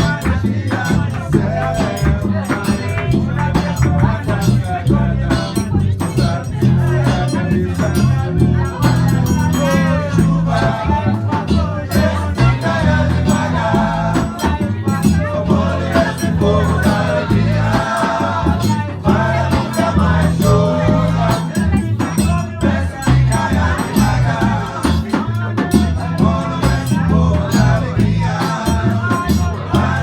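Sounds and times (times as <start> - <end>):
heavy bass line: 0.0 - 30.0.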